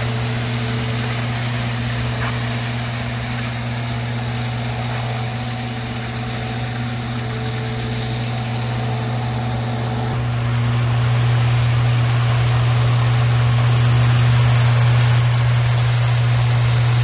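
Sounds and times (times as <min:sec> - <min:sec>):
machine engine droning: 0:00.0 - 0:17.0.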